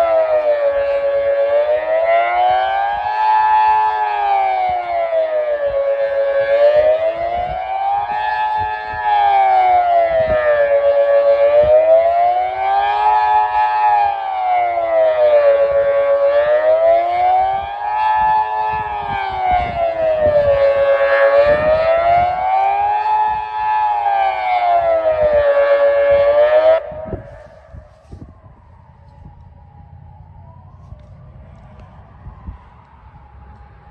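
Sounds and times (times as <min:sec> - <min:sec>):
rising and falling siren: 0:00.0 - 0:33.9
wind buffeting microphone: 0:00.0 - 0:33.9.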